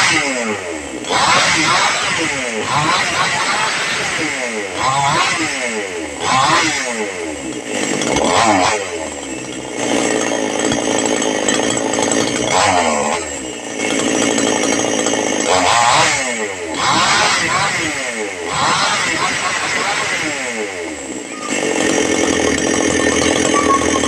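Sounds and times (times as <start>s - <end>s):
chainsaw engine revving: 0.0s - 24.0s.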